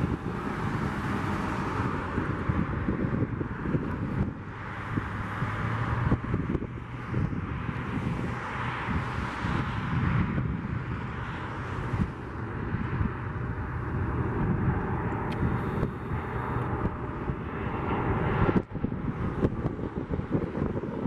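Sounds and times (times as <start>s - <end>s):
jet airliner engines: 0.0s - 21.0s
wind buffeting microphone: 0.0s - 21.0s.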